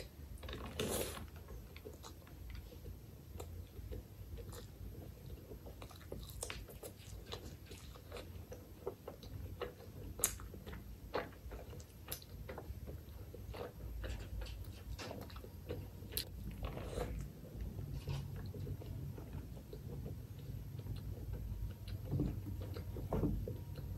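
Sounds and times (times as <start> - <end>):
person chewing food: 0.0 - 23.9.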